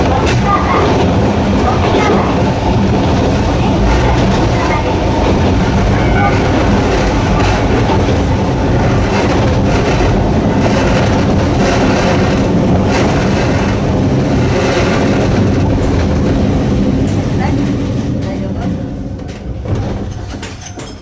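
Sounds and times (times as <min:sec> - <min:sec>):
traction motor hum: 0:00.0 - 0:20.2
train wheel and rail noise: 0:00.0 - 0:21.0.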